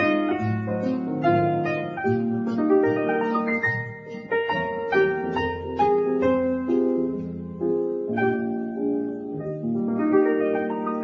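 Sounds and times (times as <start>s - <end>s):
cocktail piano music: 0.0s - 11.0s.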